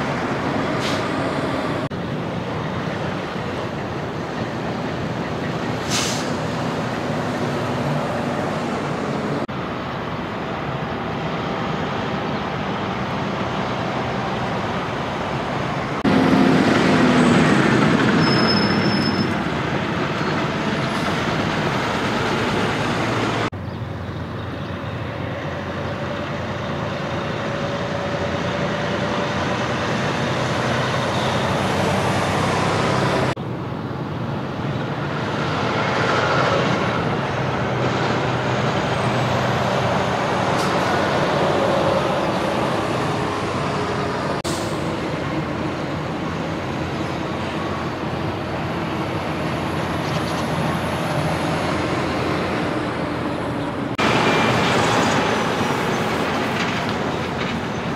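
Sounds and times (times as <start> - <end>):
diesel trucks passing: 0.0 - 57.9
road noise: 0.0 - 57.9.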